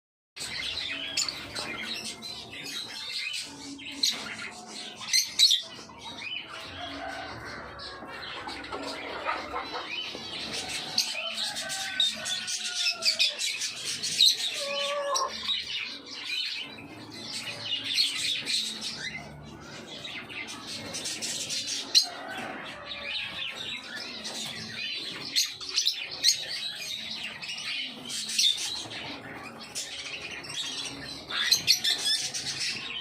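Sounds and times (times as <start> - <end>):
birds chirping and squawking: 0.4 - 33.0.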